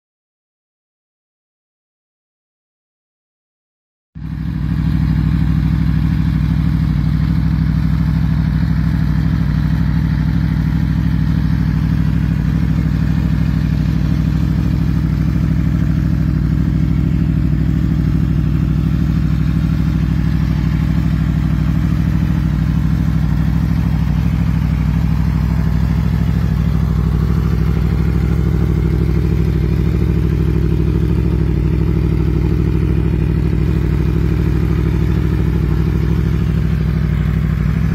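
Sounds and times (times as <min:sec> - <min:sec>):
motorcycle engine idling: 0:04.2 - 0:37.9.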